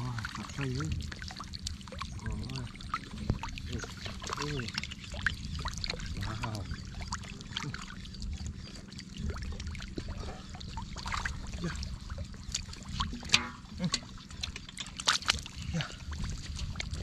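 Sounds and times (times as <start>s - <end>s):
muddy water splashing: 0.0s - 17.0s.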